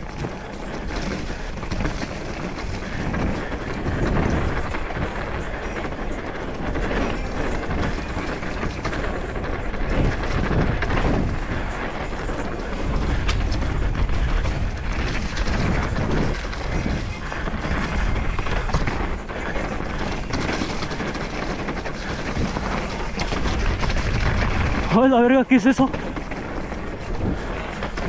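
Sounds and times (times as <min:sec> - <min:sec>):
bike rattling and knocking: 0:00.0 - 0:28.0
bike tyre rumble on dirt: 0:00.0 - 0:28.0.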